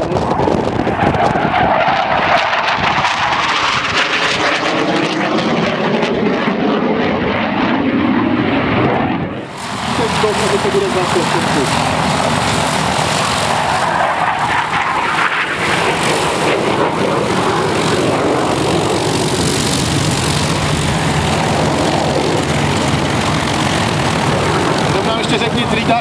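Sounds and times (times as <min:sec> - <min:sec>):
propeller aircraft engines droning: 0:00.0 - 0:26.0.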